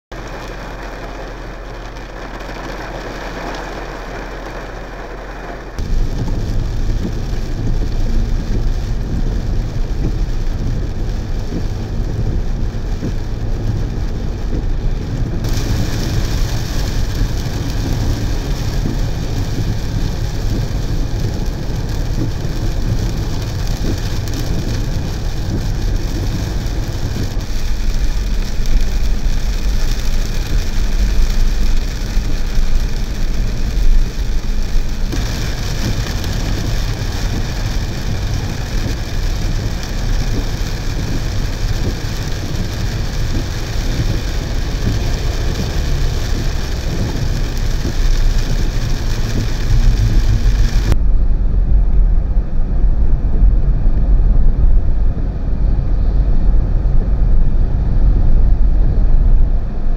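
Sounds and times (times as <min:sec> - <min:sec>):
road rumble inside car: 0:00.0 - 0:59.9
hiss of rain and wet tyres: 0:00.1 - 0:51.1.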